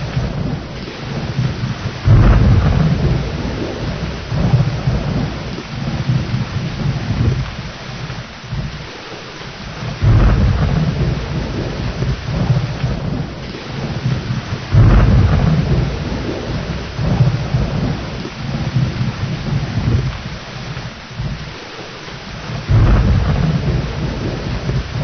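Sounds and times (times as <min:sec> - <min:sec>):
rolling thunder: 0:00.0 - 0:08.9, 0:09.6 - 0:21.6, 0:22.2 - 0:25.0
steady rain: 0:00.0 - 0:25.0.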